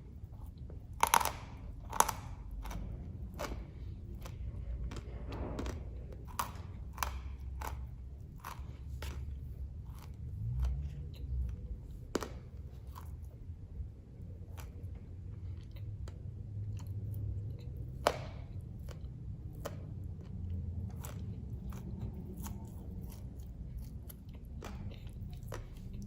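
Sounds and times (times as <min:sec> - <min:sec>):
clay being chewed: 0:00.0 - 0:26.0.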